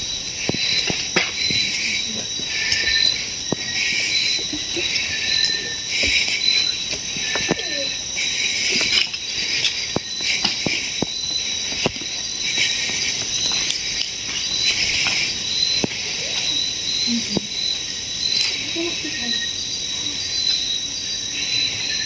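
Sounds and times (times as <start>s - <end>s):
crickets and insects trilling: 0.0s - 22.0s.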